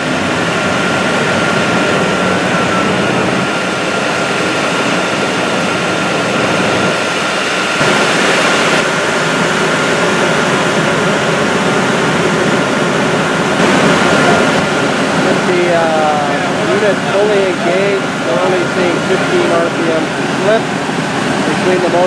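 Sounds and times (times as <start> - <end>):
fan rush of air and machinery: 0.0 - 22.0
thin high whine: 0.0 - 22.0.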